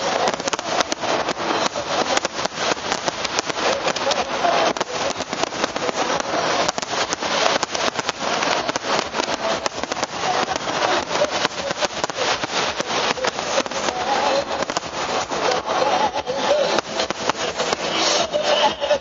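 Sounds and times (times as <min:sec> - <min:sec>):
fireworks crackling pops: 0:00.0 - 0:19.0
steady hiss: 0:00.0 - 0:19.0.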